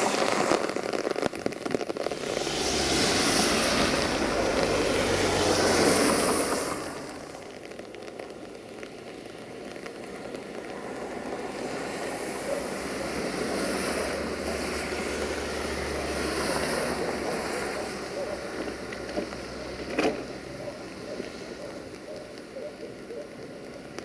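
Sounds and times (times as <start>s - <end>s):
rail traffic rumble: 1.9s - 8.3s, 9.8s - 24.0s.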